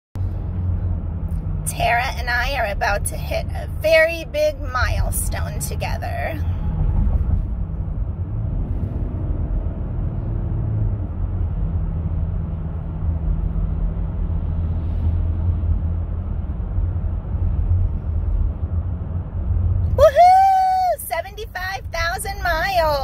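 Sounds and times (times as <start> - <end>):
road and engine rumble: 0.2 - 23.0.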